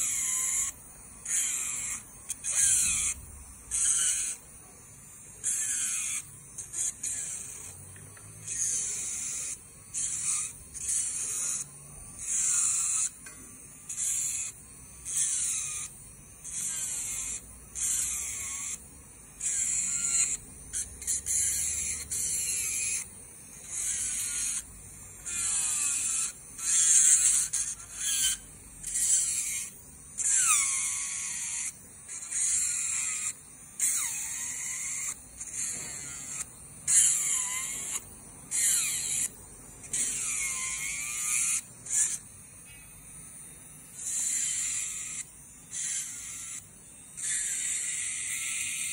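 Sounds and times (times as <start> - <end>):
electric nail drill grinding: 0.0 - 48.9.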